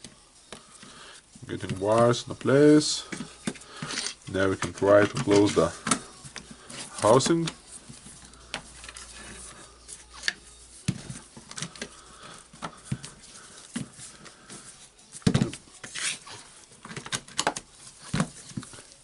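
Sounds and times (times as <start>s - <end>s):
handling rustles: 0.0s - 19.0s.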